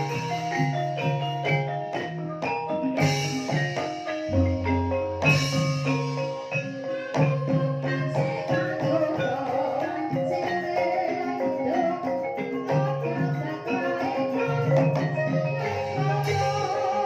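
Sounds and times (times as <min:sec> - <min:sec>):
gamelan playing: 0:00.0 - 0:17.0.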